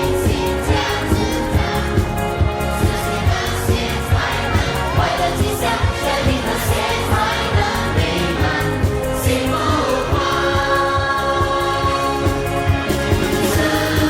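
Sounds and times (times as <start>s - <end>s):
song with singing over beat: 0.0s - 14.0s.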